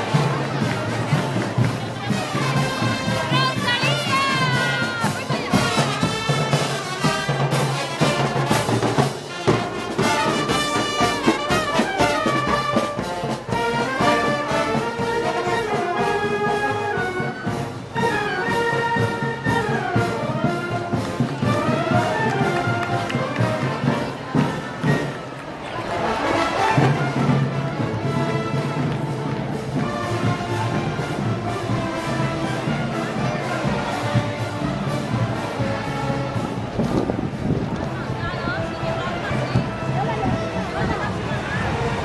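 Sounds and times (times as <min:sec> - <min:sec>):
steady drum beat: 0:00.0 - 0:25.2, 0:26.2 - 0:38.7
brass band playing march music: 0:00.0 - 0:42.0.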